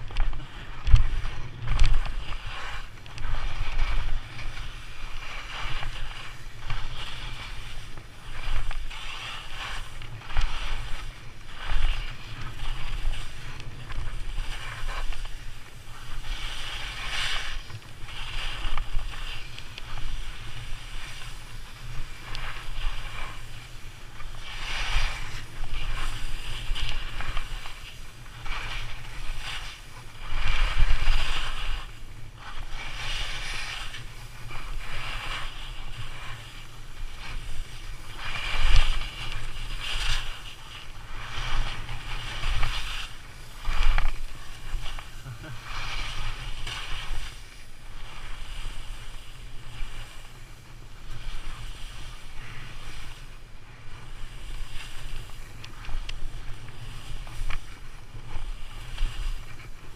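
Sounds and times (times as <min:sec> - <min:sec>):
skis swishing through snow: 0:00.0 - 0:59.9
wind rumble on microphone: 0:00.0 - 0:59.9.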